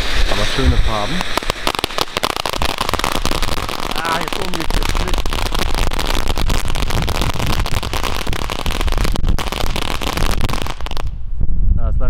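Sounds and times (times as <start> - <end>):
ground firework crackling hiss: 0.0 - 11.2.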